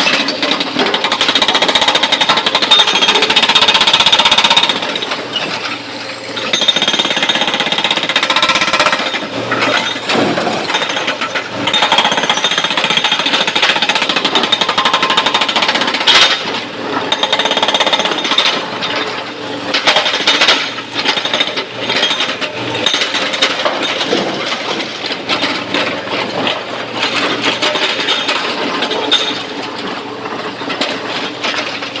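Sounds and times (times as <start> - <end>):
hydraulic rock breaker hammering: 0.0 - 32.0.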